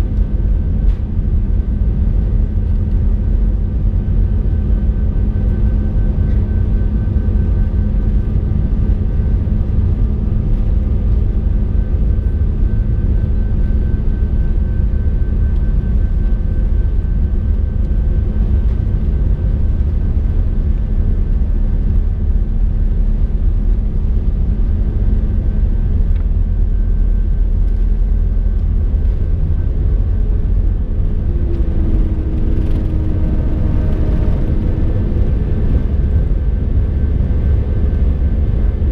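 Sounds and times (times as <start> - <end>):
jet engine low rumble: 0.0 - 38.9
jet engine whine: 0.0 - 38.9.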